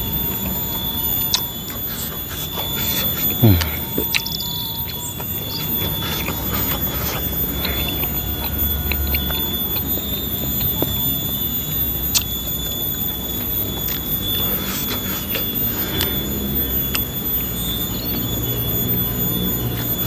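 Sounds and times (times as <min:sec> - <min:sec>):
crunchy chewing: 0:00.0 - 0:20.0
high-pitched whine: 0:00.0 - 0:20.0.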